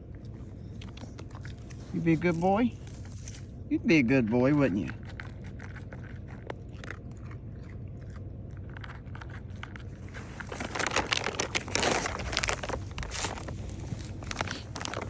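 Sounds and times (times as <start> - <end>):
dog crunching a dry treat: 0.0 - 15.0.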